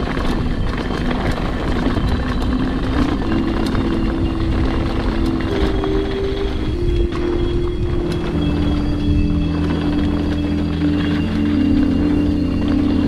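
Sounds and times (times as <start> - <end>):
bike clicks and rattles: 0.0 - 13.0
tyres rumbling on gravel: 0.0 - 13.0
wind buffeting microphone: 0.0 - 13.0.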